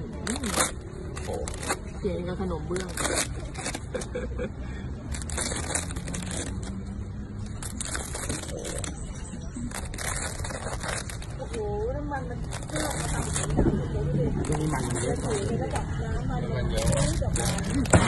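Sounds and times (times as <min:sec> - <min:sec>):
skewer scraping crackling: 0:00.0 - 0:18.0.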